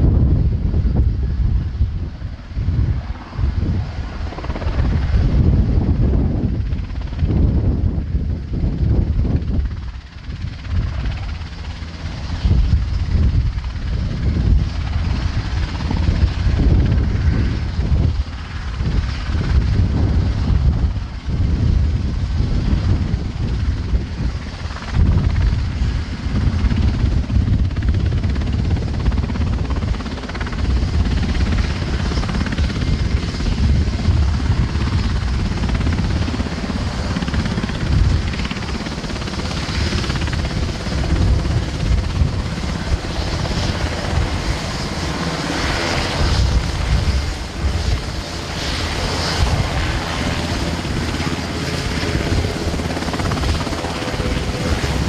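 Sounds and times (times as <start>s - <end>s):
helicopter rotors and engine: 0.0s - 55.0s.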